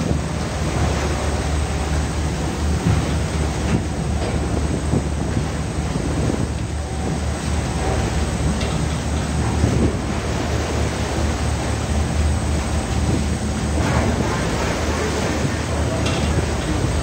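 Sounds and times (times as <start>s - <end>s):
boat engine droning: 0.0s - 17.0s
sea water washing over deck: 0.0s - 17.0s
wind buffeting microphone: 0.0s - 17.0s.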